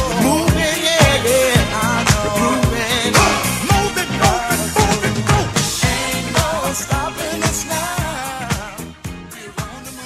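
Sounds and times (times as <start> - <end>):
upbeat song with vocals: 0.0 - 10.0.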